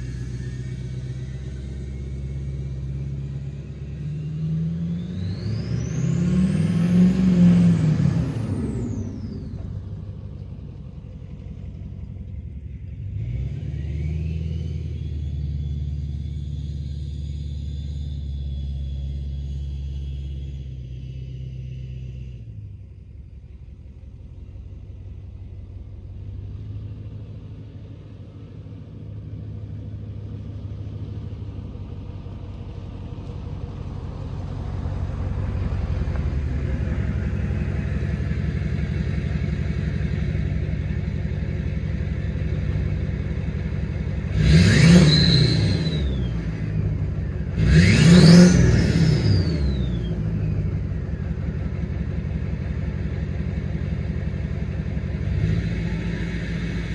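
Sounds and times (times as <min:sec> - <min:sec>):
diesel engine revving: 0:00.0 - 0:56.9.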